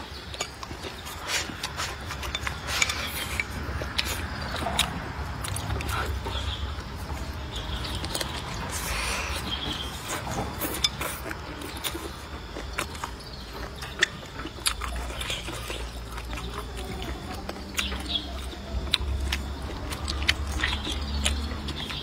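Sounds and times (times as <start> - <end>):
person chewing squid: 0.0 - 22.0.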